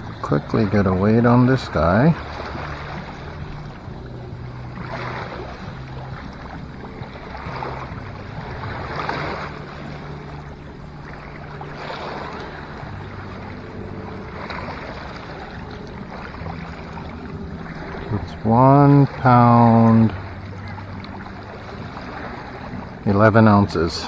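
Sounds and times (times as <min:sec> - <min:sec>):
lapping water rushing: 0:00.0 - 0:24.0
low motor drone: 0:00.0 - 0:24.0
wind: 0:00.0 - 0:24.0.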